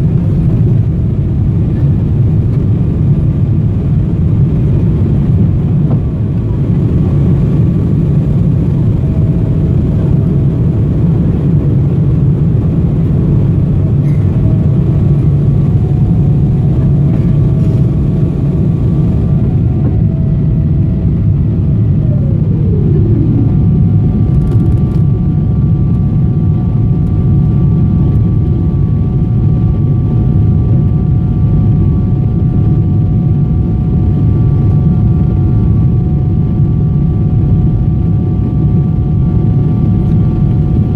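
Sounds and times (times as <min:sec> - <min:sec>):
aircraft cabin engine rumble: 0:00.0 - 0:40.9
whining engine tones: 0:03.2 - 0:40.9.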